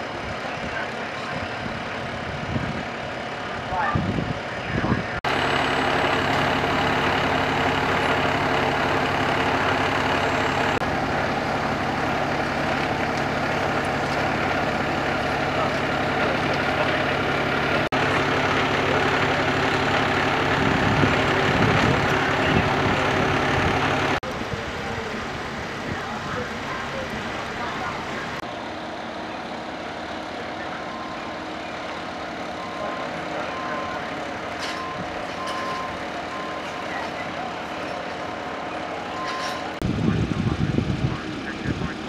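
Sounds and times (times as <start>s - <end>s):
heavy vehicle engine idling: 0.0s - 42.0s.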